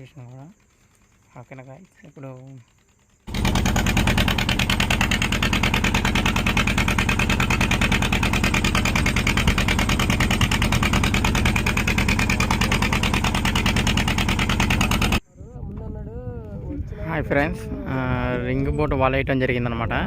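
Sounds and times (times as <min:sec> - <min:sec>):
boat engine running: 0:00.0 - 0:18.6.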